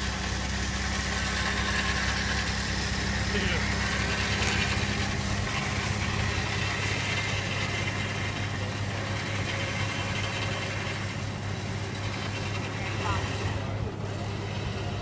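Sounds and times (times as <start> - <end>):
car engine running low: 0.0 - 15.0.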